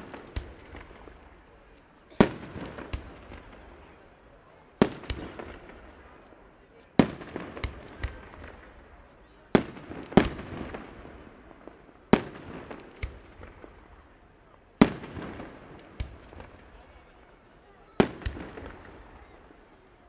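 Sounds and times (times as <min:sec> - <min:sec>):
small firework pops: 0:00.0 - 0:20.0.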